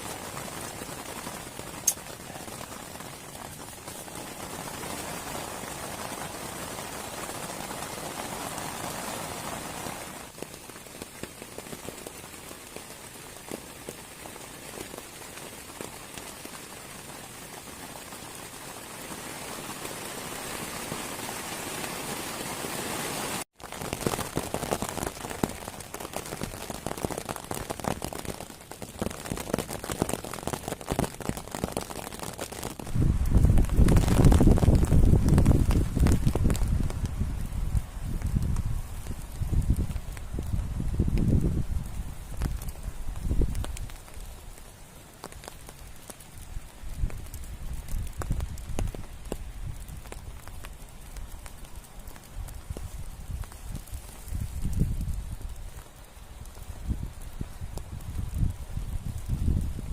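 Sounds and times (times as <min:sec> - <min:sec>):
heavy rain with drop taps: 0:00.0 - 0:59.9.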